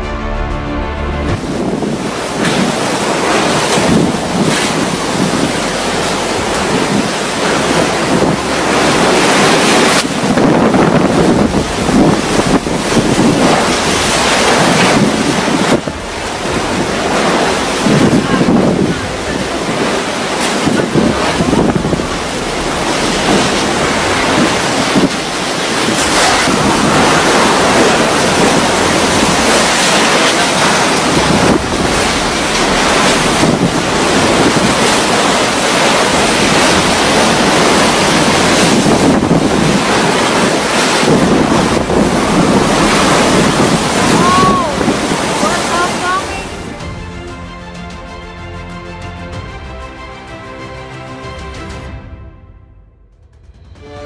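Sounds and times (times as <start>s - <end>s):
driving rain: 0.0s - 52.0s
strong wind gusts: 1.1s - 47.6s
wind buffeting microphone: 1.3s - 47.0s.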